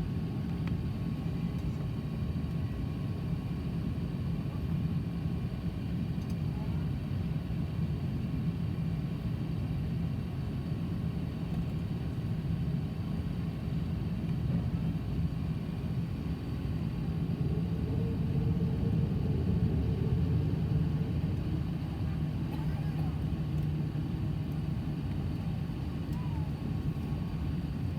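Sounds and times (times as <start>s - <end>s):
jet engines rumbling in cabin: 0.0s - 27.9s.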